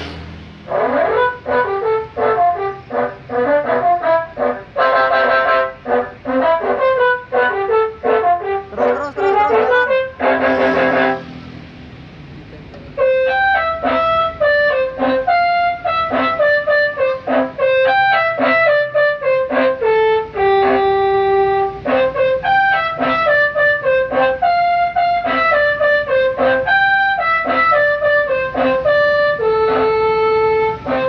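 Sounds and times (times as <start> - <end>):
musical bus horn tune: 0.0 - 11.7, 12.9 - 31.0.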